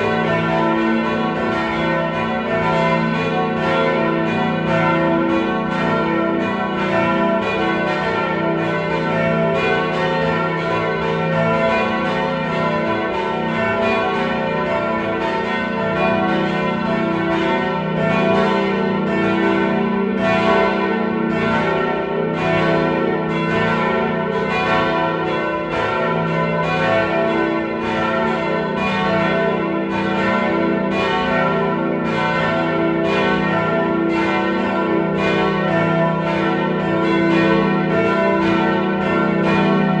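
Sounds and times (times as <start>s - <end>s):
church bells ringing: 0.0s - 40.0s.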